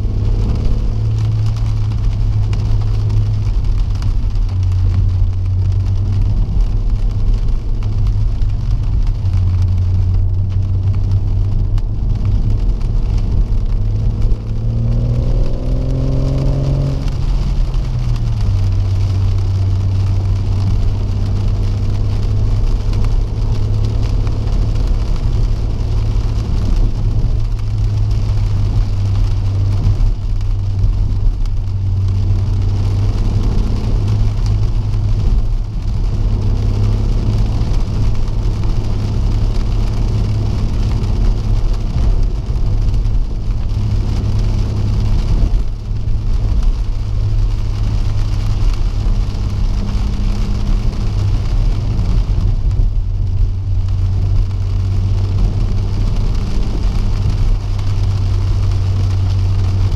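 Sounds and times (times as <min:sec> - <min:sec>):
car engine from inside cabin: 0:00.0 - 0:59.9
rain on windscreen: 0:00.0 - 0:59.9
tyre noise on wet road: 0:00.0 - 0:59.9.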